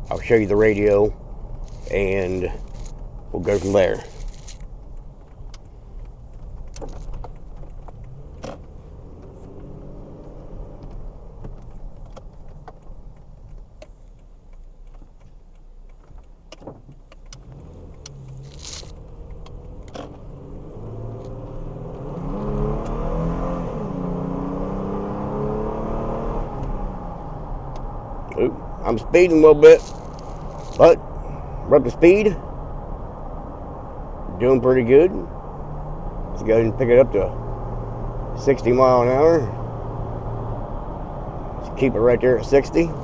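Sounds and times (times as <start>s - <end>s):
pickup truck engine: 0.0s - 43.0s
road noise inside cab: 0.0s - 43.0s.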